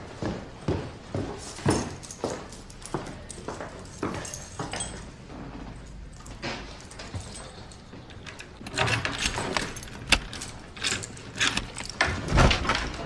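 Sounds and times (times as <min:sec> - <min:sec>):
keys jangling: 0:01.4 - 0:12.3.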